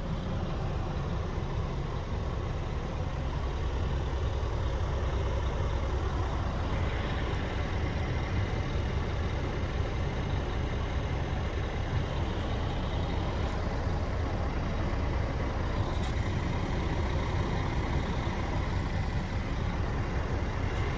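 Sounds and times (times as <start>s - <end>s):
diesel truck engine idling: 0.0s - 20.9s.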